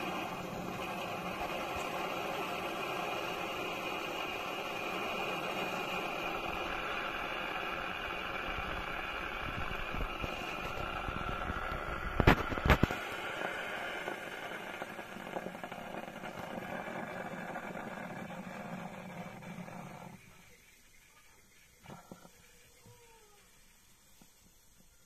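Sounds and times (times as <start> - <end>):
espresso machine pump humming: 0.0 - 21.0.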